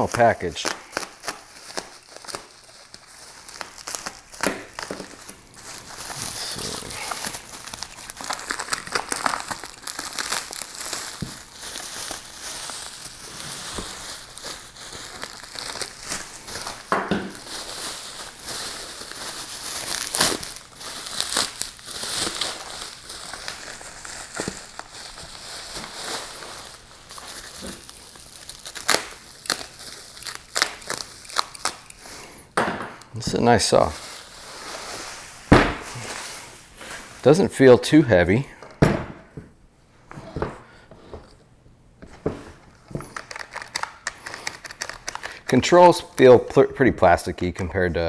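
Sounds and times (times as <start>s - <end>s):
bubble wrap crinkling: 0.0s - 38.4s, 42.5s - 46.6s.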